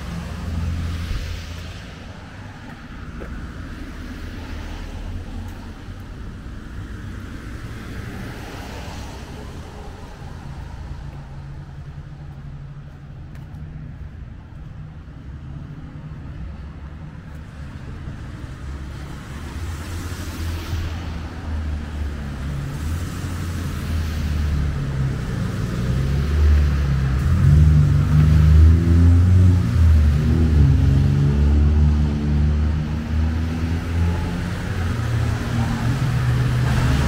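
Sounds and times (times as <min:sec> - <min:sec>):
tyres hissing on wet road: 0:00.0 - 0:11.5, 0:18.2 - 0:37.0
passing cars rumbling: 0:00.0 - 0:37.0.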